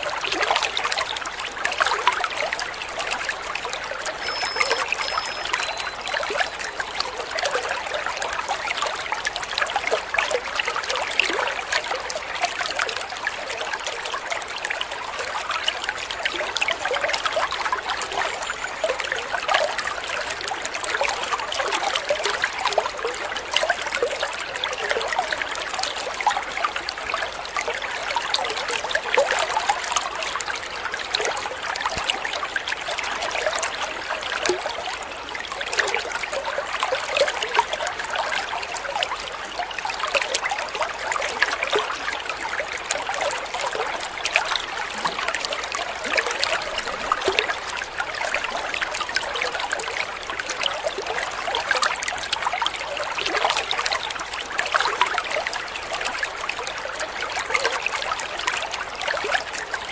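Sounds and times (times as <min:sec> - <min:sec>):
water trickling and babbling: 0:00.0 - 0:59.9.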